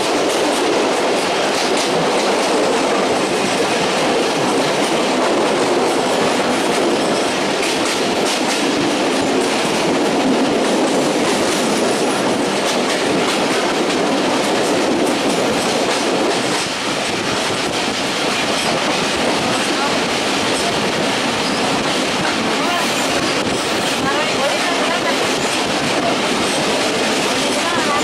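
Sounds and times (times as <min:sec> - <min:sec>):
train running noise: 0:00.0 - 0:28.0.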